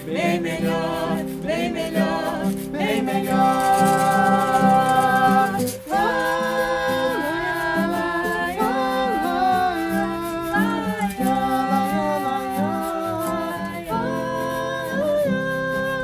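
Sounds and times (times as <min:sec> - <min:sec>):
acoustic guitar: 0:00.0 - 0:16.0
basket shaker: 0:00.0 - 0:16.0
man and woman singing held notes: 0:00.0 - 0:16.0.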